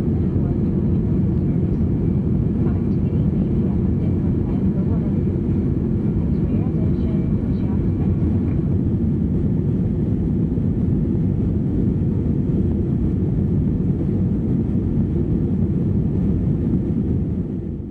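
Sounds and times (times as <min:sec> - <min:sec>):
aircraft cabin engine rumble: 0:00.0 - 0:17.9.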